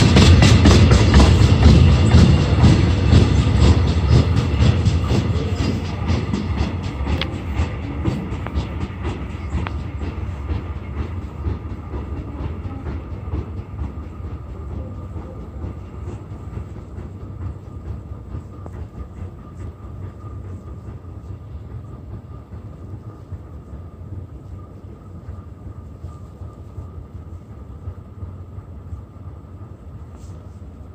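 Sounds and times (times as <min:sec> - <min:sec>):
train rumbling past: 0:00.0 - 0:30.9.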